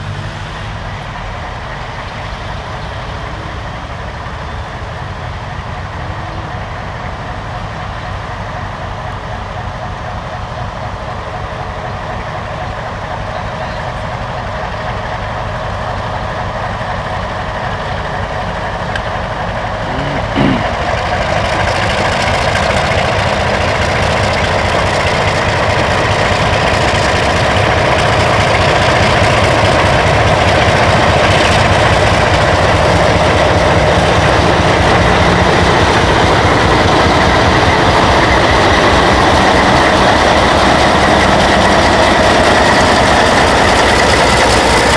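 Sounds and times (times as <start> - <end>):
diesel locomotive engine running: 0.0 - 44.9.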